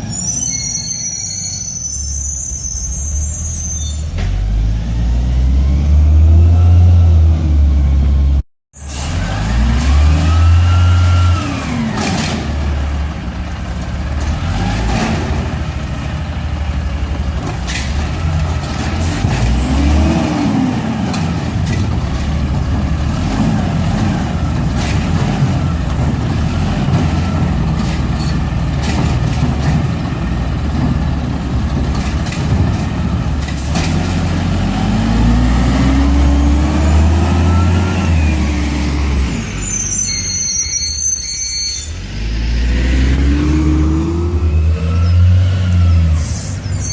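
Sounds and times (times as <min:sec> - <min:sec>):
garbage truck engine revving: 0:04.2 - 0:40.1, 0:41.9 - 0:46.8.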